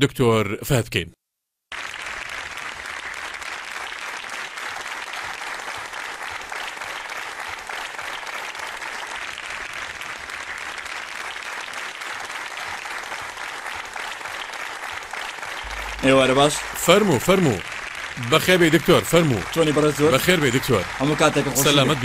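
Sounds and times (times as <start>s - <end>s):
audience applauding: 1.7s - 22.0s.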